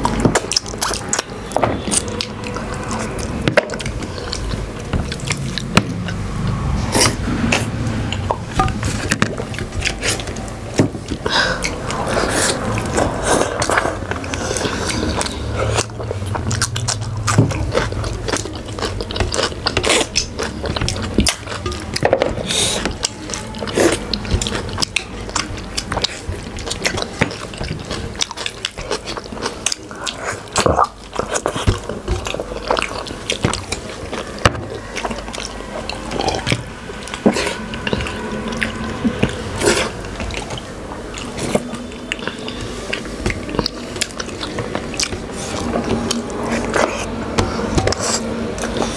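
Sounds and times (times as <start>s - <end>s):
people chewing bones: 0.0s - 48.9s.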